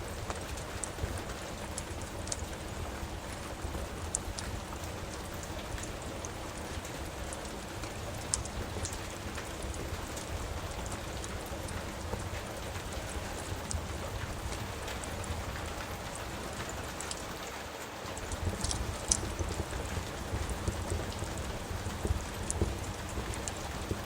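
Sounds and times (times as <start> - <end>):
steady rain: 0.0 - 24.0
wood fire crackling: 0.0 - 24.0.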